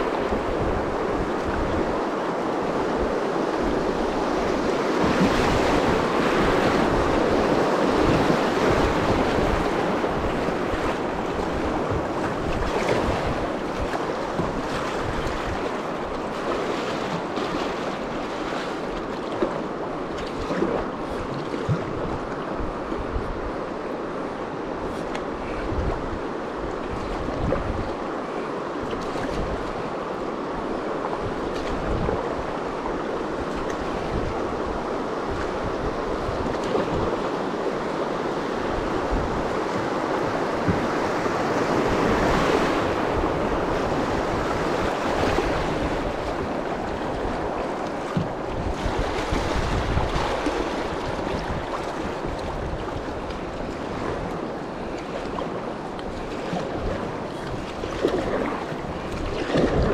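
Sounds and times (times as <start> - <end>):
river water rushing: 0.0 - 59.9
wind buffeting microphone: 0.0 - 59.9.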